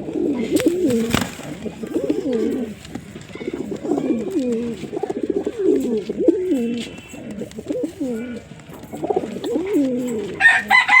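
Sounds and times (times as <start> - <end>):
pigeon cooing: 0.0 - 11.0.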